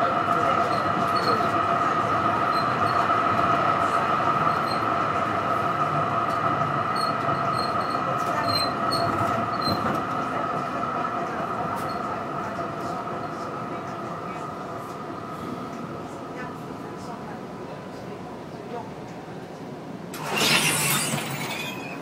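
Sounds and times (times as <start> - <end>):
tram rolling rumble: 0.0 - 22.0.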